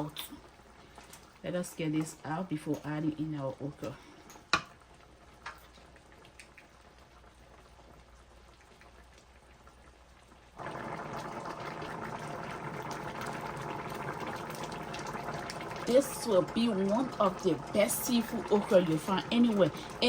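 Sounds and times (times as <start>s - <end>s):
pot of broth bubbling: 0.0s - 20.0s.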